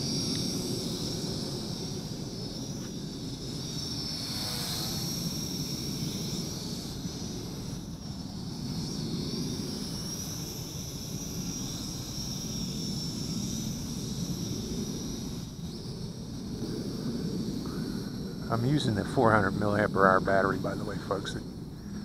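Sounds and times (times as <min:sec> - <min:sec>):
quadcopter propellers whining: 0:00.0 - 0:22.0.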